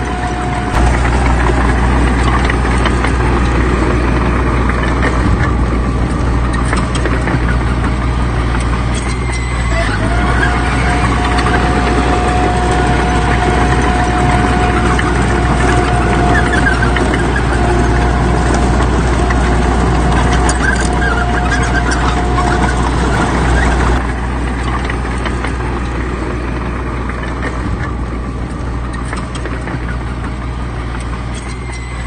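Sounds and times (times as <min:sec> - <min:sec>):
diesel engine rumble: 0:00.0 - 0:32.0
high machinery whine: 0:00.0 - 0:32.0.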